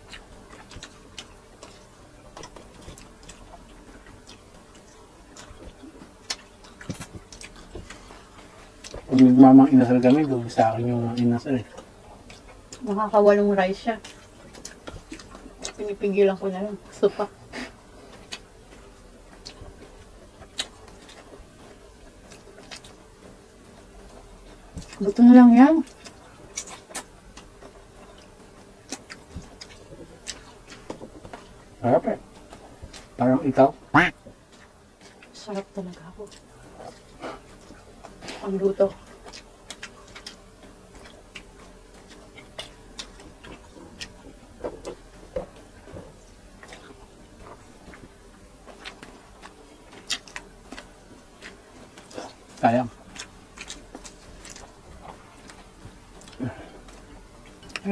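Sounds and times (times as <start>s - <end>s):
person chewing food: 0.0s - 13.0s, 14.0s - 15.9s, 17.2s - 25.2s, 25.8s - 57.9s.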